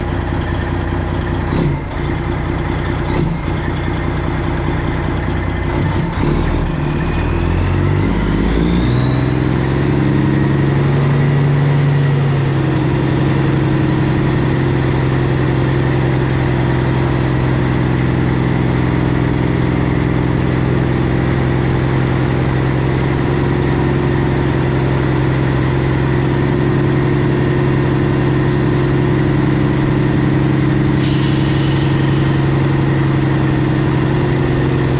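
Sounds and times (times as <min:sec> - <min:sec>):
diesel truck engine running: 0:00.0 - 0:34.9.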